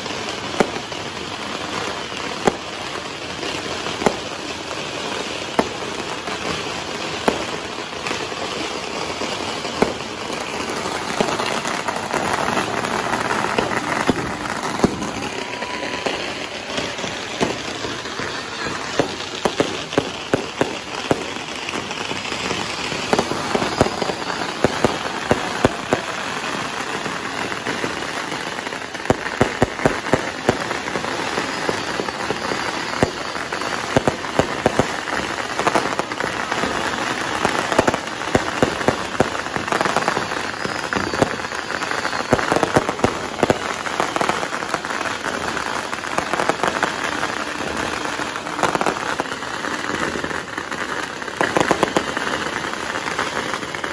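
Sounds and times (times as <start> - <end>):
fireworks crackling and popping: 0.0 - 53.9.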